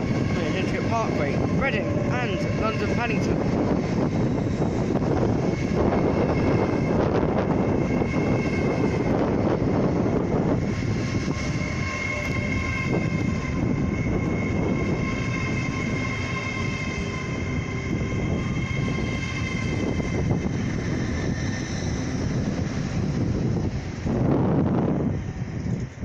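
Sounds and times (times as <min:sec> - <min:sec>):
high whine: 0:00.0 - 0:26.0
train wheels rumbling: 0:00.0 - 0:26.0.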